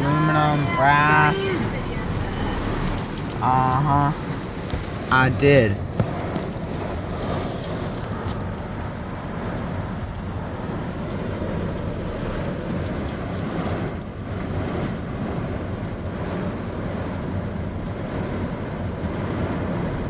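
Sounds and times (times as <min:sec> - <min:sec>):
heavy rain on a car: 0:00.0 - 0:20.0.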